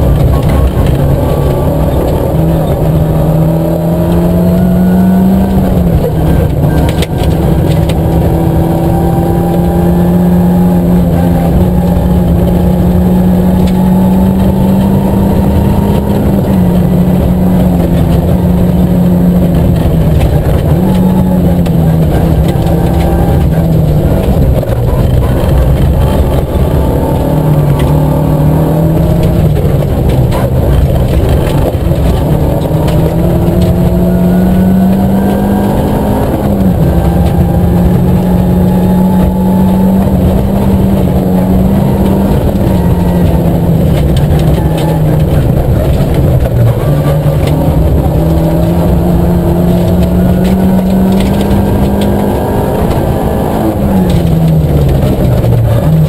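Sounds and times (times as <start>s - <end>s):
gravel road noise: 0.0s - 56.0s
rally car engine revving: 0.0s - 56.0s.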